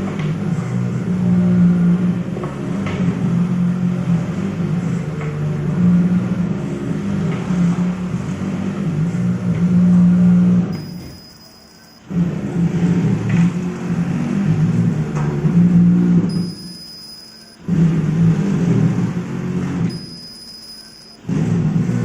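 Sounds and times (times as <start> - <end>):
laser marking machine hum: 0.4 - 22.0.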